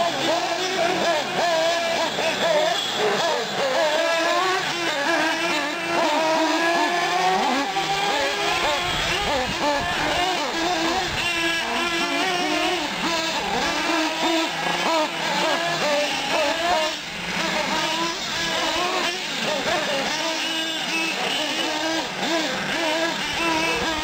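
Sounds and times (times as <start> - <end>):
rc car engines whining: 0.0 - 24.0.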